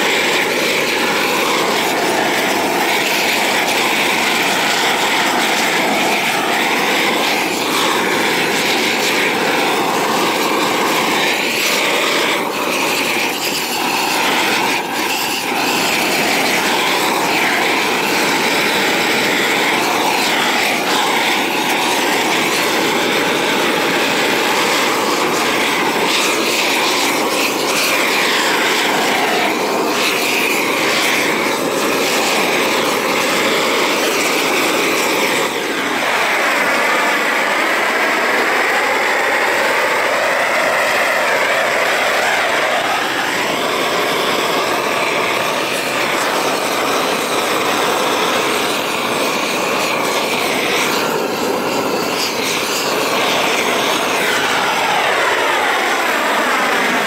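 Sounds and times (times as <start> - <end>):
gas torch burning: 0.0 - 57.0.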